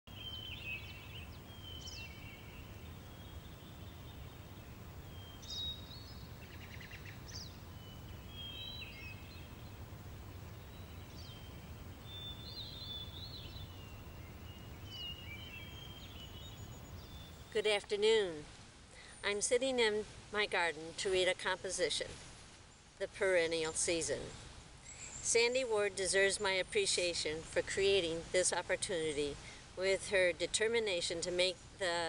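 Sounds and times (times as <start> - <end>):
songbirds chirping: 0.1 - 32.0.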